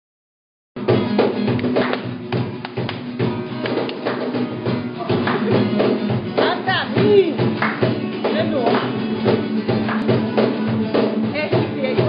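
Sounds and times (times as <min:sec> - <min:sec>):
acoustic guitars strummed: 0:00.8 - 0:12.0.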